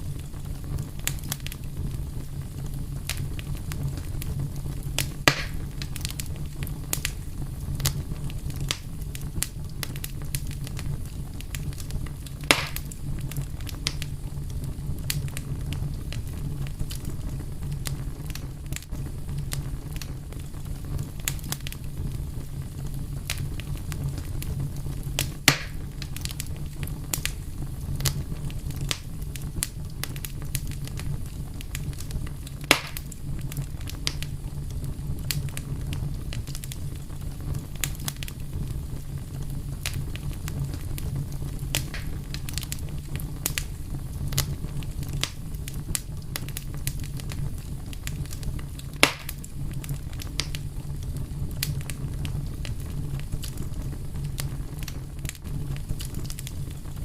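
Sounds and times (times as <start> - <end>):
fire crackling: 0.0 - 57.0
fire pops: 0.0 - 57.0.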